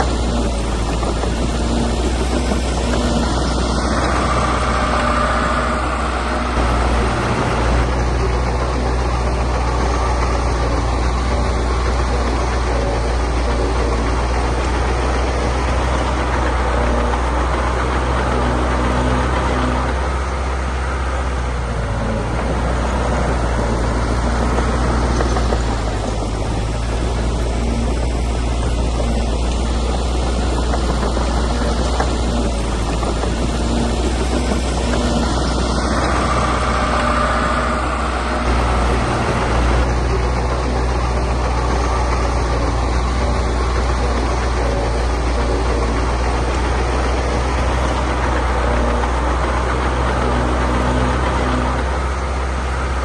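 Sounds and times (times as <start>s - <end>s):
diesel engine of earthmoving machinery: 0.0s - 53.0s.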